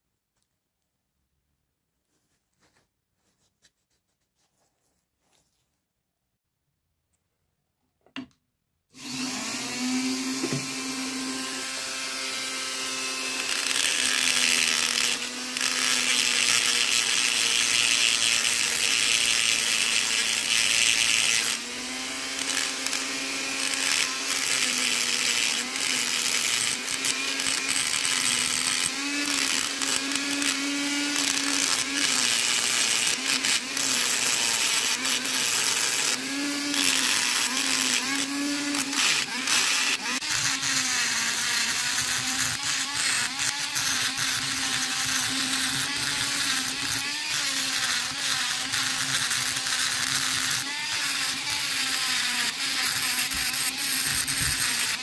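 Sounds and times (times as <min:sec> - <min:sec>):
rotary tool grinding metal: 0:09.0 - 0:55.0.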